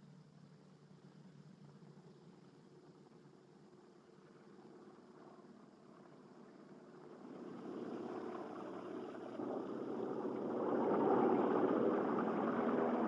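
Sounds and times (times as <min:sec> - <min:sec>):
propeller engines running: 0:01.6 - 0:13.0.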